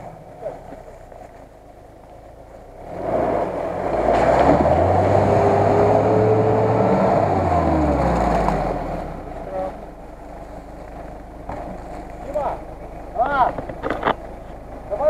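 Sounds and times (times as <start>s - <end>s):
mud and water splashing: 0.0s - 14.9s
car engine under hard throttle: 0.0s - 15.0s.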